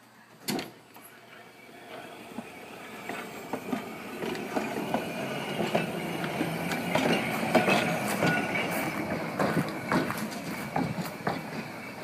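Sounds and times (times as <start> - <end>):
streetcar wheels rumbling: 0.8 - 12.0
high wheel squeal: 1.5 - 12.0.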